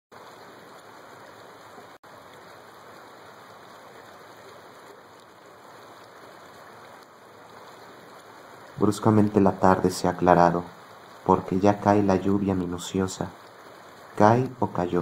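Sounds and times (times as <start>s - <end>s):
rain falling: 0.1s - 15.0s.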